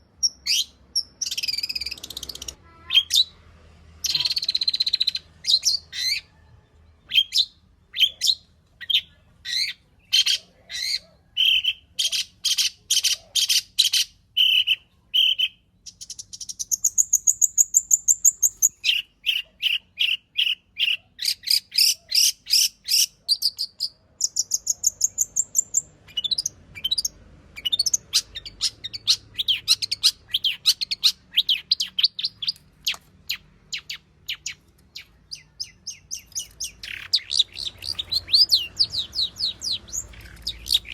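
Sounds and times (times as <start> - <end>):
bird singing varied phrases: 0.0 - 40.9.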